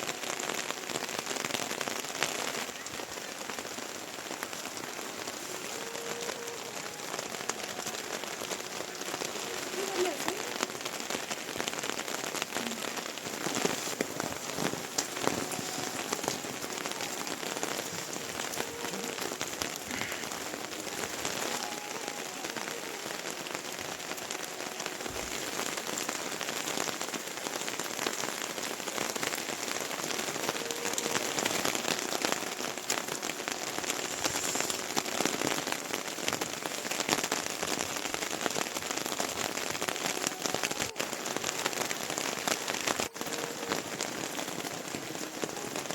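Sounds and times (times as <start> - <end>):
raindrops ticking on a surface: 0.0 - 45.9
steady rain falling: 0.0 - 45.9.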